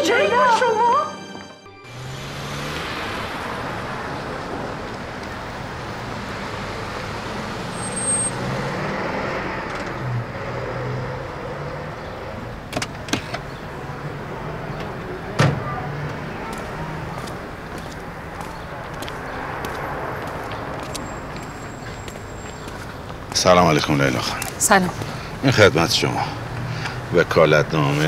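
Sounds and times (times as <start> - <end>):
cars driving past: 1.4 - 28.0.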